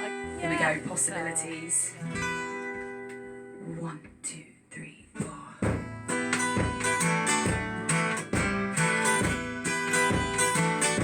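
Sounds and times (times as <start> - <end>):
acoustic guitar strumming chords: 0.0 - 3.6, 5.6 - 11.0.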